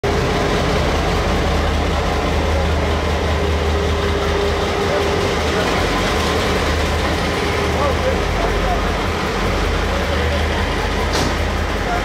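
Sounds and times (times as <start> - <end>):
train engine drone: 0.0 - 12.0.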